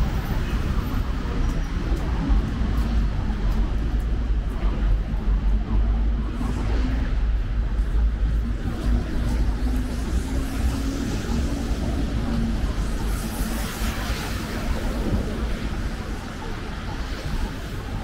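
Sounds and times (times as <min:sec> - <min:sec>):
city street traffic rumble: 0:00.0 - 0:18.0.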